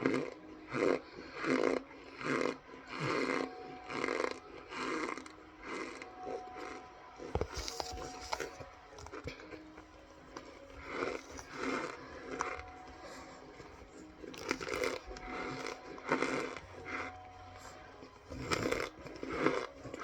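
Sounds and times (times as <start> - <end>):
chewing crunching: 0.0 - 20.0.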